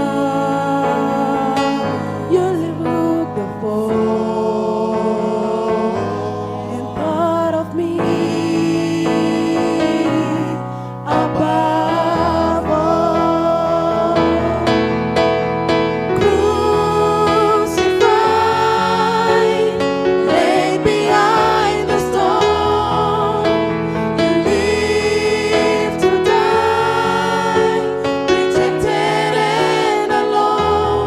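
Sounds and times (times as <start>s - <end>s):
choir singing: 0.0s - 31.0s
keyboard accompaniment: 0.0s - 31.0s.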